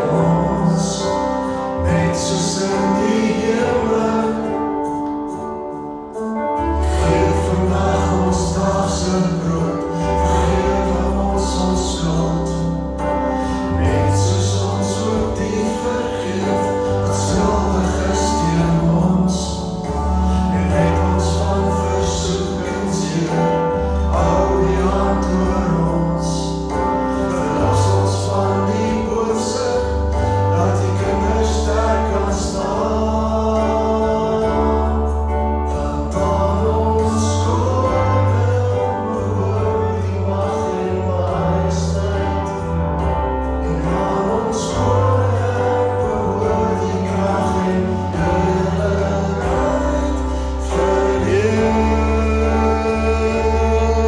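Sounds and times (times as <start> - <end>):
voices singing: 0.0 - 6.0, 6.6 - 54.0
musical accompaniment with bass: 0.0 - 54.0.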